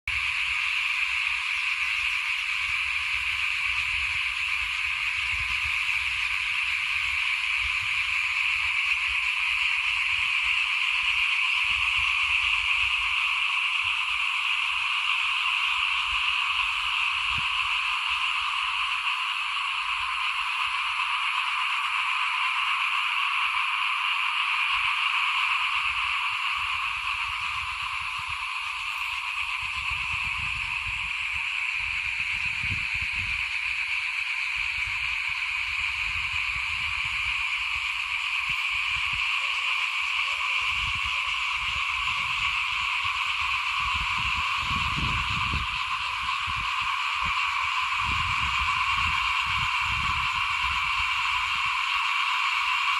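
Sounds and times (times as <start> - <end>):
frogs calling in chorus: 0.2 - 52.9.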